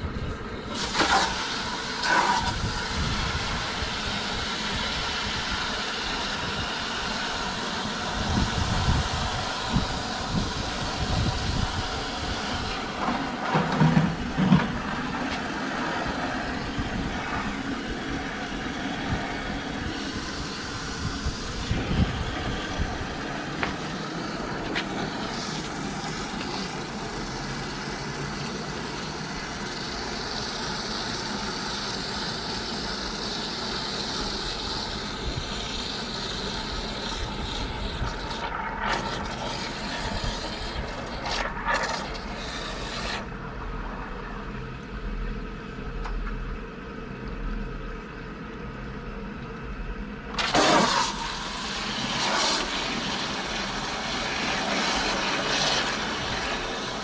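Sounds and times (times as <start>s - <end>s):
small pump running: 0.0s - 47.7s, 50.1s - 57.0s.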